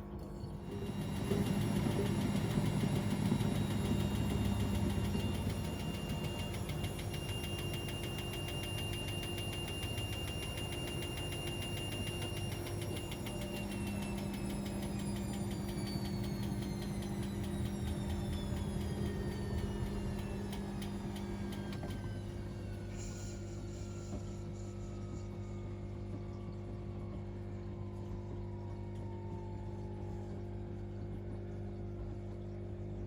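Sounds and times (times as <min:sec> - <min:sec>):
fast rhythmic whir: 0:00.0 - 0:30.4
washing machine motor hum: 0:00.0 - 0:33.0
high whine falling in pitch: 0:01.4 - 0:31.6.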